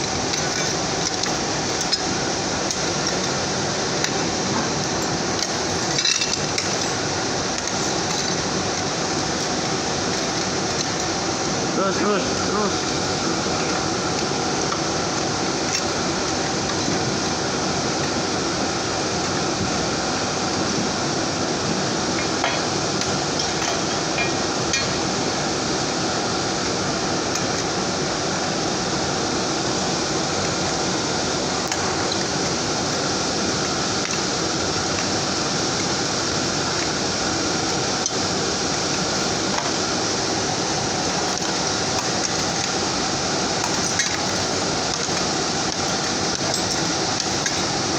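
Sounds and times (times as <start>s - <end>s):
furnace burner and blower rushing: 0.0s - 47.9s.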